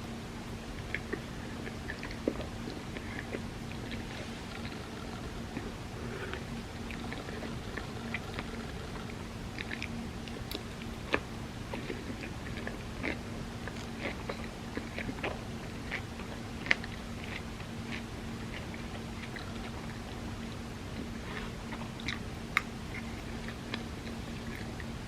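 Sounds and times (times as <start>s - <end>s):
close chewing and mouth clicks: 0.0s - 25.0s
steady low hum: 0.0s - 25.0s.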